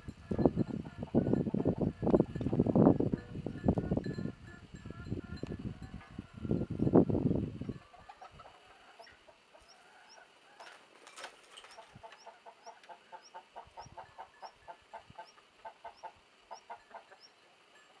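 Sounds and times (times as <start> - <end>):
faint chickens clucking: 0.0 - 18.0.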